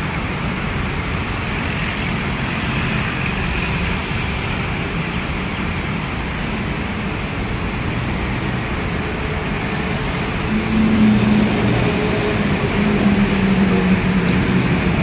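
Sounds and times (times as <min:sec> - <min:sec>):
monorail train humming: 0:00.0 - 0:15.0
road traffic: 0:00.0 - 0:15.0.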